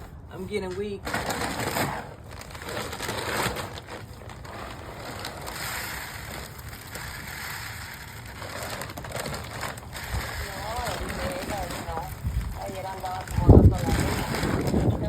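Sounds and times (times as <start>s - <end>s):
dry seed pouring rustle: 1.2s - 15.0s.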